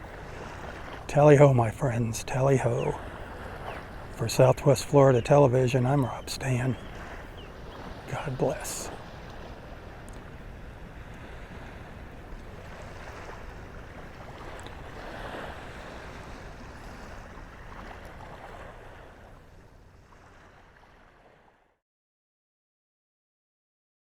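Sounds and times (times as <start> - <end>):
small waves lapping on shore: 0.0 - 21.8.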